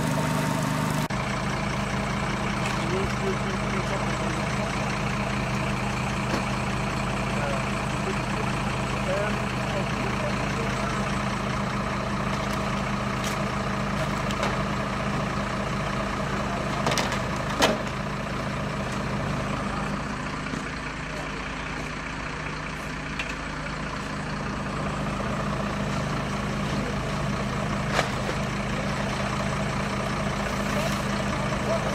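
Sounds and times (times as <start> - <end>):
diesel engine idling: 0.0 - 31.9.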